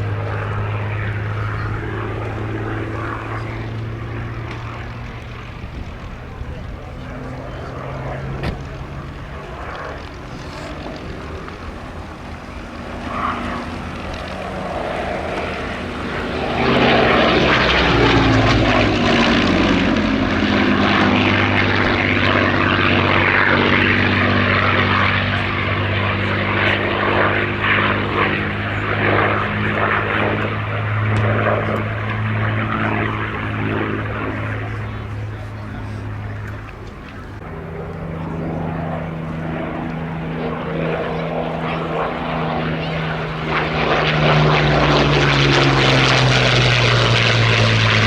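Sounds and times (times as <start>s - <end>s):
propeller aircraft engine passing: 0.0s - 48.0s.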